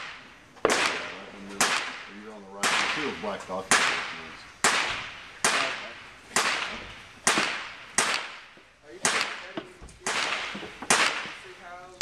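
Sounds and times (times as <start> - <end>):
echoing gunshots: 0.0 - 11.8.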